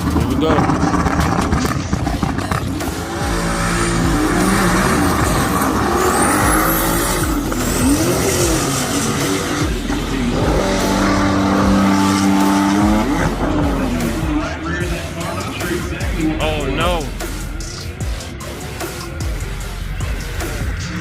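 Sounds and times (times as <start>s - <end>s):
race cars accelerating: 0.0s - 21.0s.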